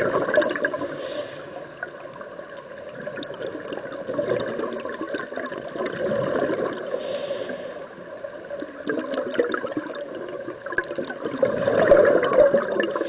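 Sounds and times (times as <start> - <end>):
regulator bubbles gurgling underwater: 0.0 - 13.0.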